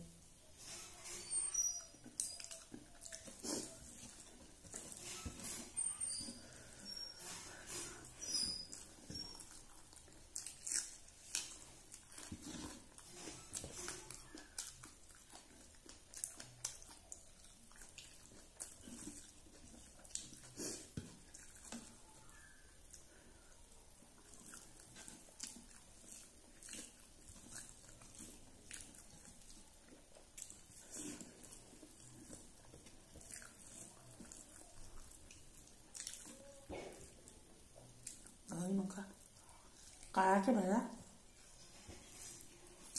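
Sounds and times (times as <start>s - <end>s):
chewing and lip smacks: 1.5s - 40.2s.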